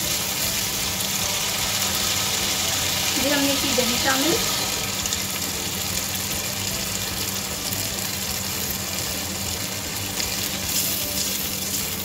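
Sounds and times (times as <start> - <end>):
sauce sizzling in oil: 0.0 - 12.0.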